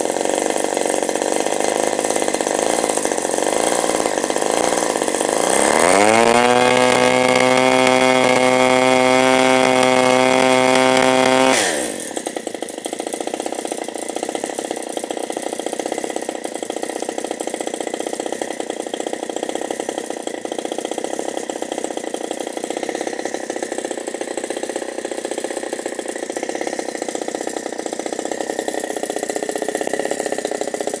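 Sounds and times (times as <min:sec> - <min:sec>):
model aeroplane engine running: 0:00.0 - 0:31.0.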